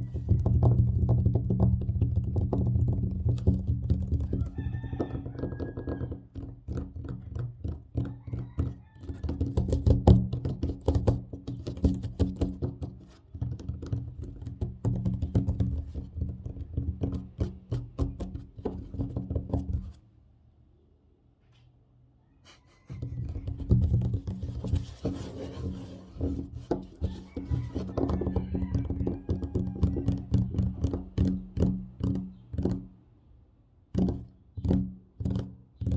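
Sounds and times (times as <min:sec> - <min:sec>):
fingers tapping and scratching tabletop: 0:00.0 - 0:20.0, 0:22.9 - 0:33.0, 0:33.9 - 0:35.9.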